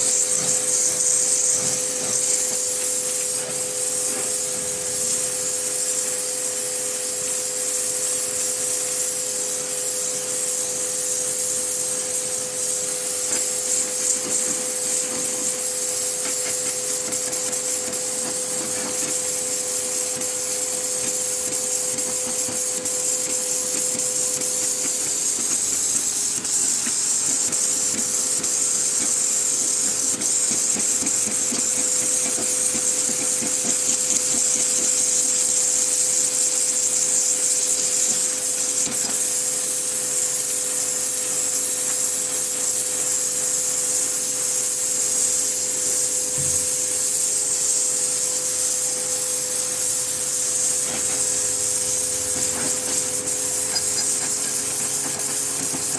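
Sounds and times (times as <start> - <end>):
pressure washer machine hum: 0.0 - 55.9
pressure washer water jet hissing: 0.0 - 55.9.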